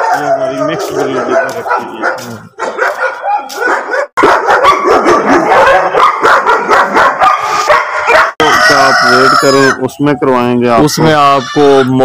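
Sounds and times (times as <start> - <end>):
dogs barking and yipping: 0.0 - 9.7.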